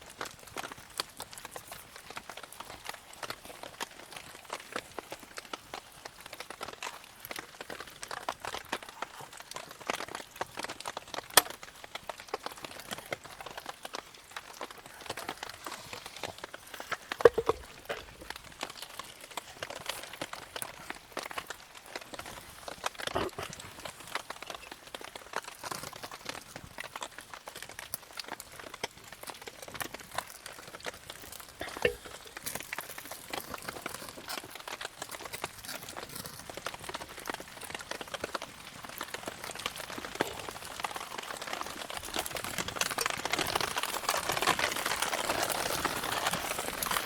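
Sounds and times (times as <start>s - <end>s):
campfire crackling: 0.0s - 47.0s
rain dripping: 0.0s - 47.0s.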